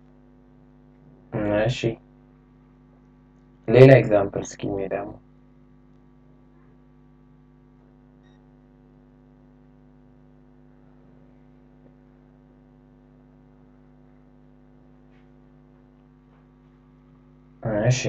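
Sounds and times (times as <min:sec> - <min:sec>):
faint electrical mains hum: 0:00.0 - 0:18.0.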